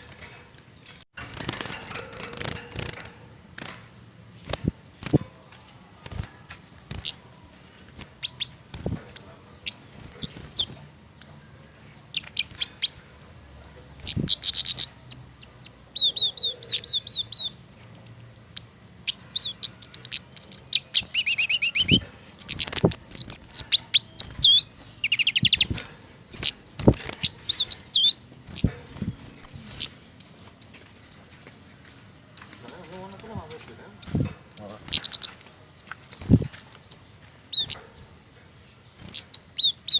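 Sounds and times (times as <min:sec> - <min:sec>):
songbird singing: 0:04.3 - 0:39.9.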